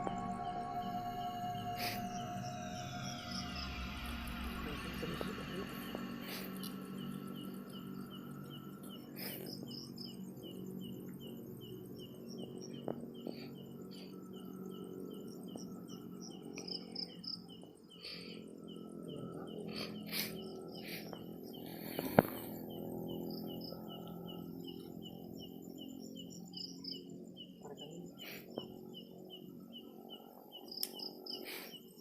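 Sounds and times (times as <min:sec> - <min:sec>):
higher insect chirps: 0:00.0 - 0:32.0
insects chirping: 0:00.0 - 0:32.0.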